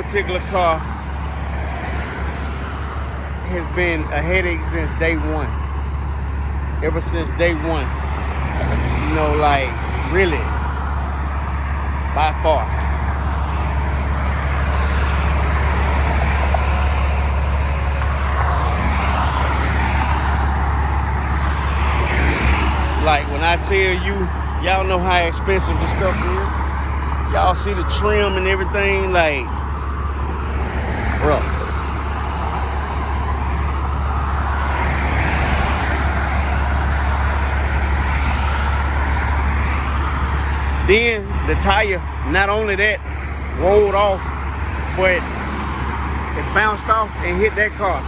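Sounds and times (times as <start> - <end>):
expressway traffic rumble: 0.0 - 48.0
vehicle passing: 0.0 - 48.0.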